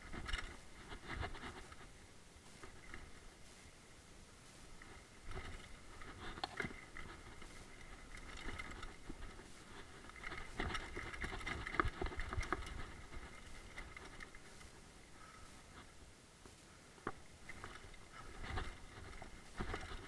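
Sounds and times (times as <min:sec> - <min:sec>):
bike clattering and rattling: 0:00.0 - 0:03.4, 0:04.7 - 0:16.0, 0:17.0 - 0:20.0.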